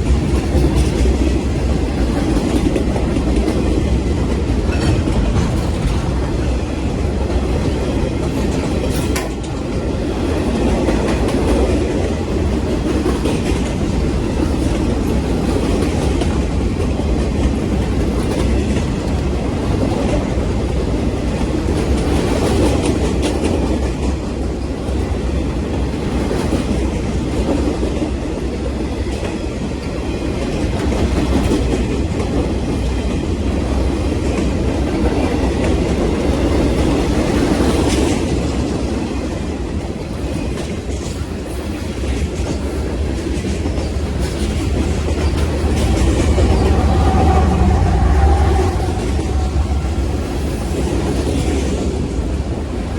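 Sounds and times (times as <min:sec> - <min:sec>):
rail joint clicks: 0:00.0 - 0:52.9
train wheels rumbling on rails: 0:00.0 - 0:52.9.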